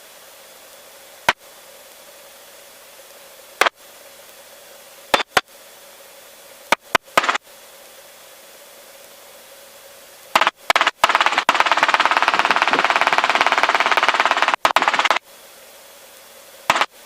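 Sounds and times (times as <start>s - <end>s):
faint hum: 0.0s - 17.0s
static crackles: 0.0s - 17.0s.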